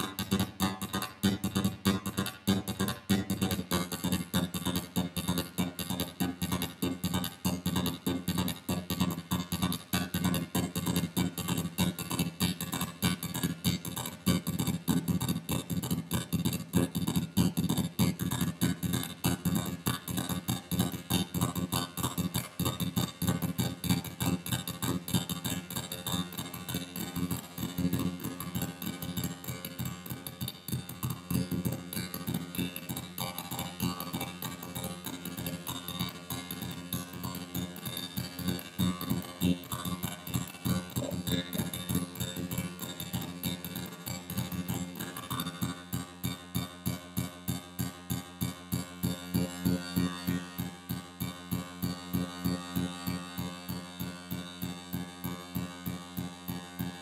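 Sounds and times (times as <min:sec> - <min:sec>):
steady low buzz: 0:00.0 - 0:18.8, 0:20.8 - 0:57.0.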